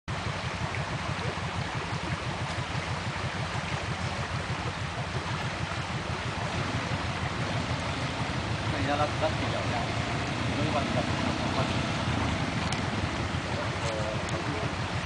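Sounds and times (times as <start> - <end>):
low rumble: 0.1 - 15.0
stream rushing: 0.1 - 15.0.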